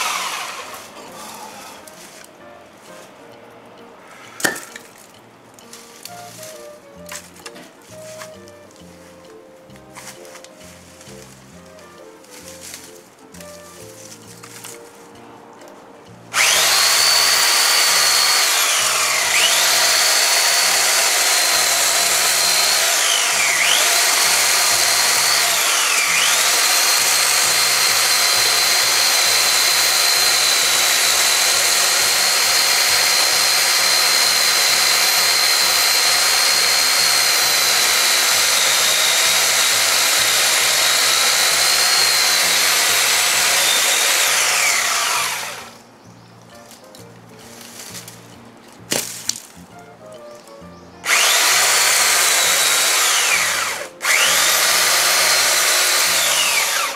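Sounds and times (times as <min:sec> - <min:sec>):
electric chainsaw cutting bushes: 0:00.0 - 0:02.3, 0:05.6 - 0:08.8, 0:09.8 - 0:14.9, 0:15.6 - 0:45.8, 0:51.0 - 0:56.9.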